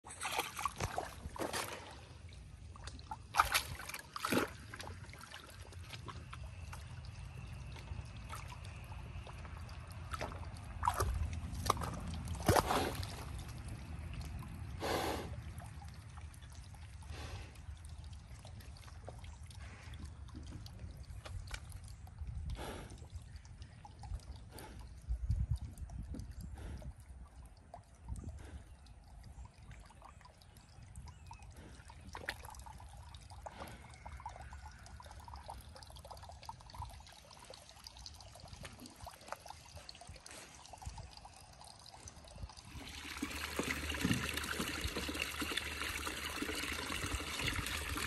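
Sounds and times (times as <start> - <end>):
mud sloshing and splashing: 0.0 - 22.4, 30.8 - 48.0
low steady rumble: 4.9 - 48.0.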